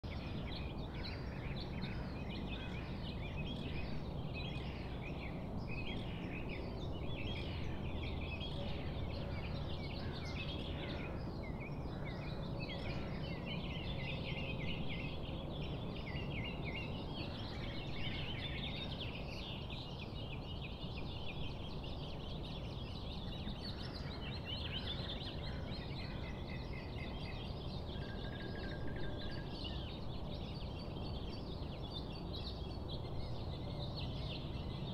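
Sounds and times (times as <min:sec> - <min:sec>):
birds chirping and calling: 0:00.1 - 0:34.9.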